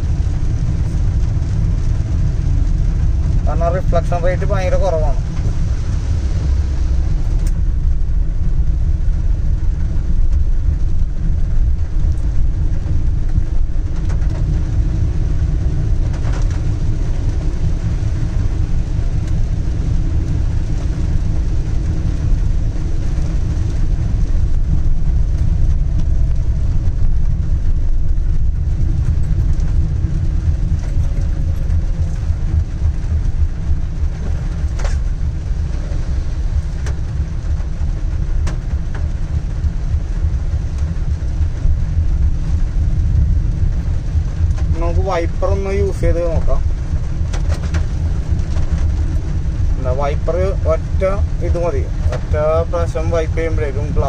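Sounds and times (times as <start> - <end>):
car driving rumble: 0.0 - 54.0
rain and tyre noise: 0.0 - 54.0.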